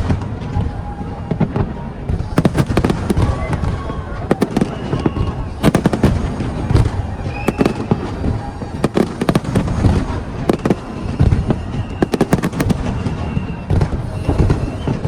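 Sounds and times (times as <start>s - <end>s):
deep fireworks booms: 0.0s - 15.0s
fireworks cracks and bangs: 0.0s - 15.0s.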